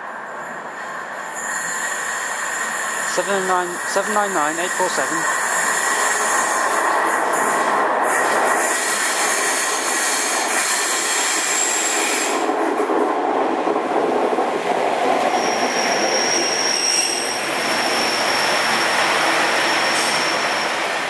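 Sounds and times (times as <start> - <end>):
train engine and wheels: 0.0 - 21.0.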